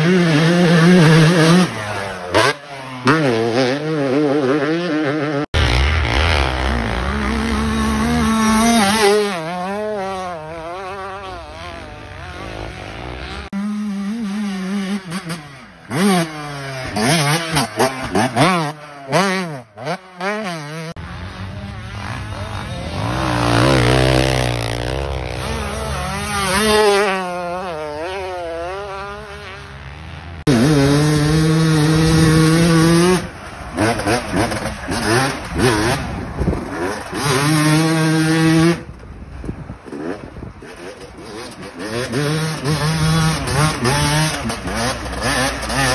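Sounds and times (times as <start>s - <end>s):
motocross bikes revving: 0.0s - 39.1s, 39.8s - 45.9s.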